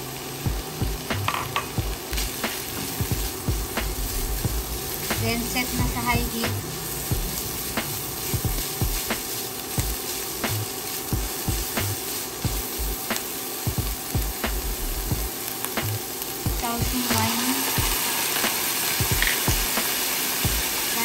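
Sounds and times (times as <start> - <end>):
meat and onions sizzling: 0.0 - 21.0.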